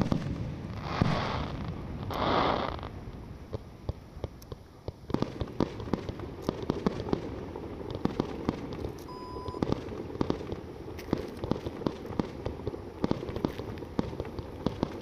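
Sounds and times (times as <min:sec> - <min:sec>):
crackling rumble: 0:00.0 - 0:15.0
firework shells bursting: 0:00.0 - 0:15.0.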